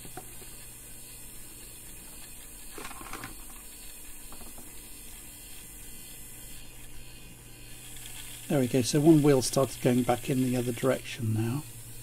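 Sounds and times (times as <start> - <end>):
small motors humming: 0.0 - 12.0.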